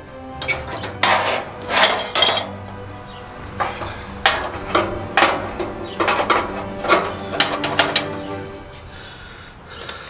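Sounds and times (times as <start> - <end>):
metal tubes clanking and scraping: 0.0 - 9.4.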